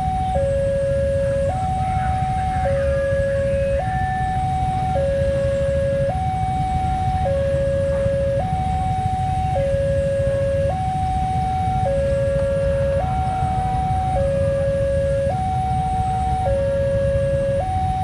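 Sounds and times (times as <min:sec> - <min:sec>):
two-tone crossing alarm: 0:00.0 - 0:18.0.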